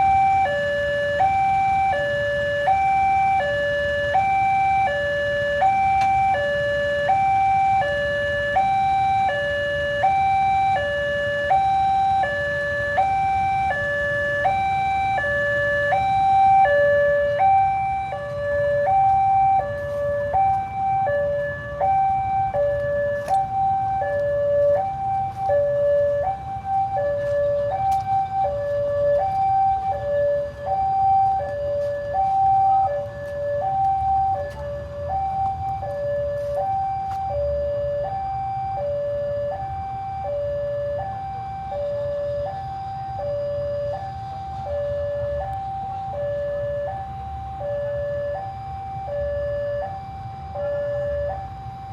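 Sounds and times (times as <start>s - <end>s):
level crossing two-tone alarm: 0.0s - 51.9s.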